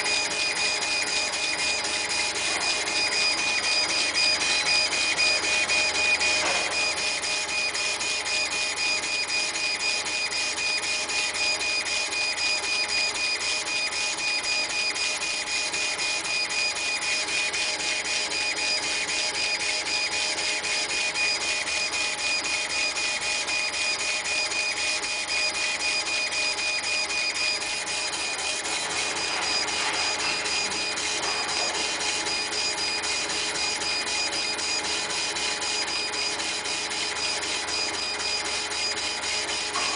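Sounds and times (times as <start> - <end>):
laser engraver stepper motors whining: 0.0 - 39.9.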